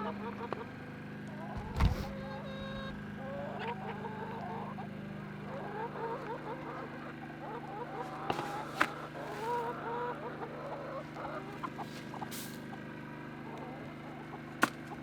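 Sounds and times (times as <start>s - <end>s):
chickens clucking: 1.4s - 15.0s.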